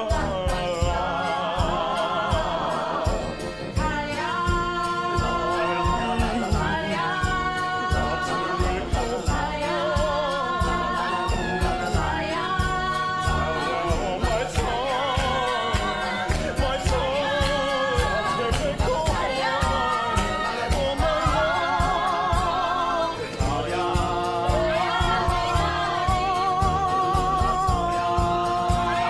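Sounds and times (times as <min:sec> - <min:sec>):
choir singing: 0:00.0 - 0:29.0
person singing: 0:00.0 - 0:29.0
steady driving beat: 0:00.0 - 0:29.0.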